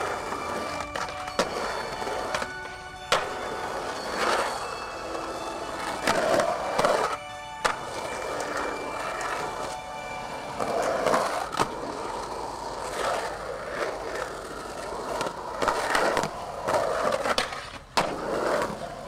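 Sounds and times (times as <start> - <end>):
skateboard clacks and scrapes: 0.0 - 19.0
skateboard wheels rolling on concrete: 0.0 - 19.0.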